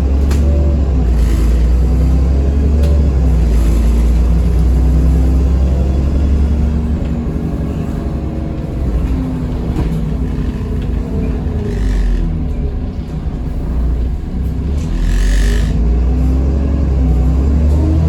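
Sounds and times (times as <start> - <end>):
bus diesel engine rumbling: 0.0 - 18.0.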